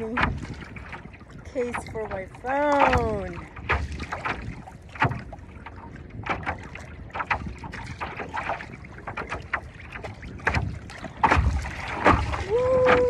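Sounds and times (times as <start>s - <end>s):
water slapping against paddleboard: 0.0s - 13.0s
wind buffeting microphone: 0.0s - 13.0s.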